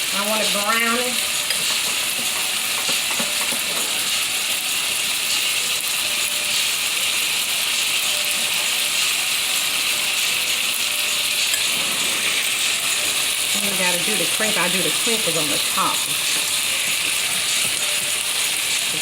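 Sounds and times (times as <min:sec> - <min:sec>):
chicken frying in oil: 0:00.0 - 0:19.0.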